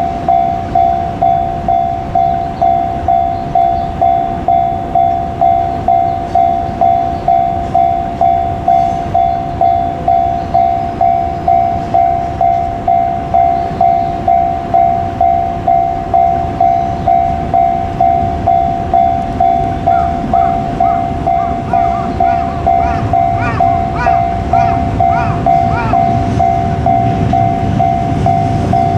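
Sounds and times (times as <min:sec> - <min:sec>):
freight train rumble: 0:00.0 - 0:28.9
level crossing bell ringing: 0:00.0 - 0:28.9.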